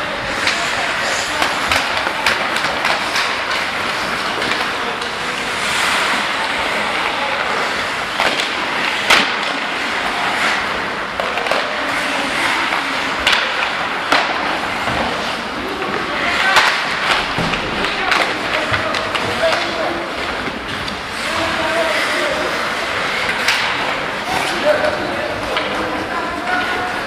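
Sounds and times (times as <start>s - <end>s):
sharp clacks of sticks and puck: 0.0s - 27.0s
skate blades scraping ice: 0.0s - 27.0s.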